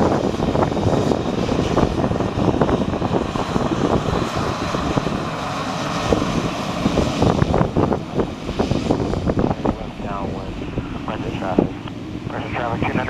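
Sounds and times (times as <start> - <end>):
high turbine whine: 0.0 - 13.0
turboprop engine running: 0.0 - 13.0
wind buffeting microphone: 0.0 - 13.0.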